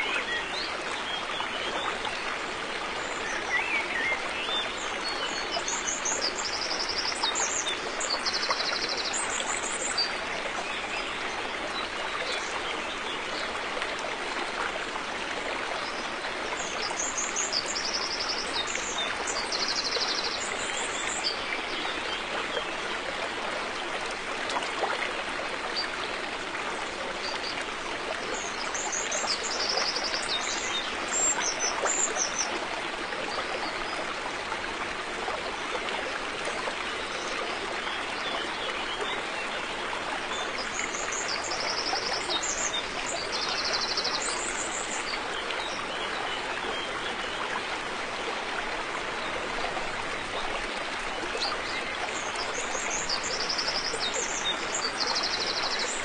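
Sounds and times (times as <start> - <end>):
river running over rocks: 0.0 - 56.0.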